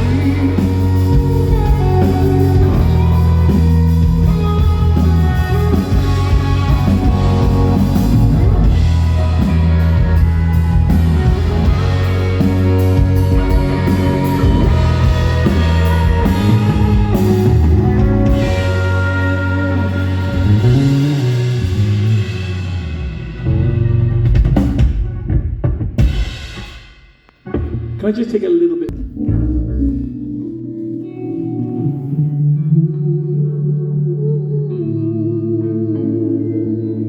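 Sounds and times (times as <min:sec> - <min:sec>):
bass guitar: 0:00.0 - 0:26.6, 0:27.4 - 0:37.0
electric guitar: 0:00.0 - 0:26.6, 0:28.9 - 0:37.0
drum kit: 0:00.0 - 0:30.6.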